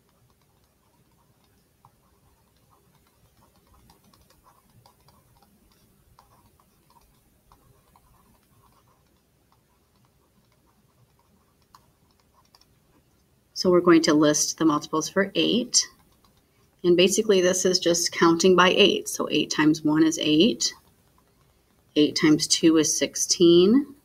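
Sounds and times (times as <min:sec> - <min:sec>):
stylus tapping on tablet screen: 0:00.0 - 0:22.7.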